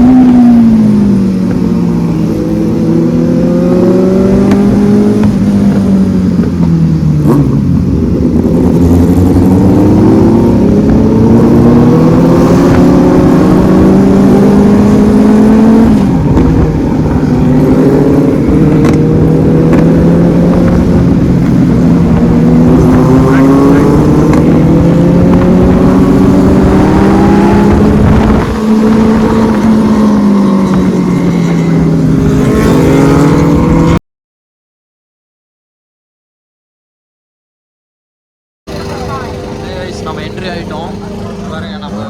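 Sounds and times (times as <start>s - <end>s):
motorcycle engine running: 0.0s - 34.0s, 38.7s - 42.0s.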